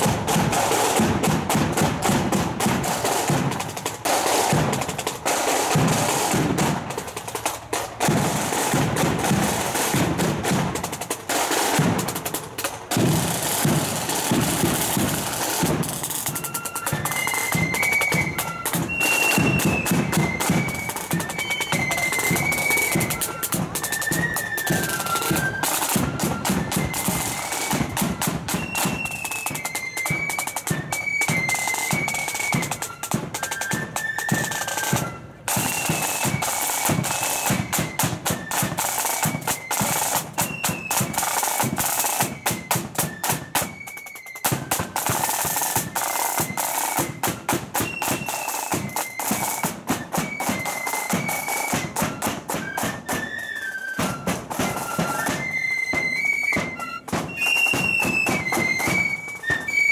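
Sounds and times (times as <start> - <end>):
flutes playing melody: 0.0 - 59.9
side drum rolls: 0.0 - 59.9.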